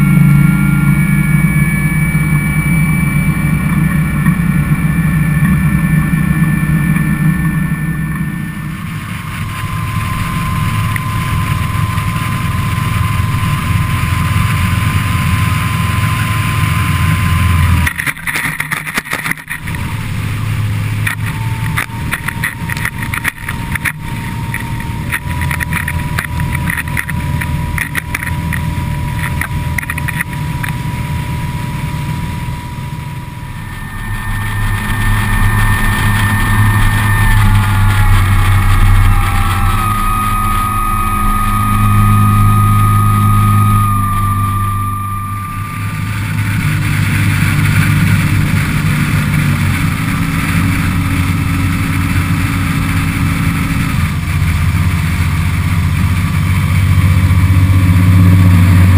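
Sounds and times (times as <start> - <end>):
powerboat diesel engine running: 0.0 - 58.9.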